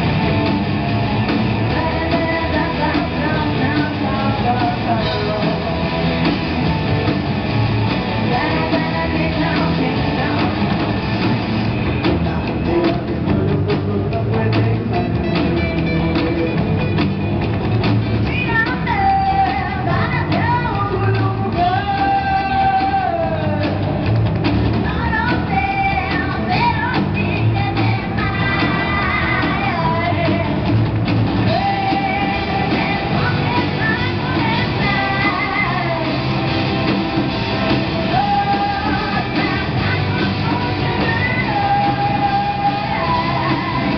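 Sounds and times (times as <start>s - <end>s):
drum kit: 0.0s - 43.9s
electric guitars: 0.0s - 43.9s
woman singing: 1.3s - 6.4s, 8.0s - 11.3s, 11.9s - 16.6s, 18.2s - 24.0s, 24.8s - 30.8s, 31.4s - 43.9s.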